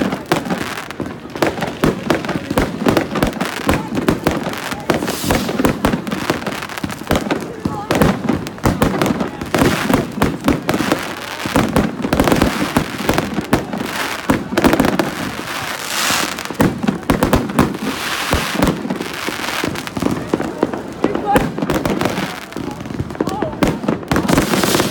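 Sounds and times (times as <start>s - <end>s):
fireworks bangs and pops: 0.0s - 24.9s
fireworks crackling: 0.0s - 24.9s.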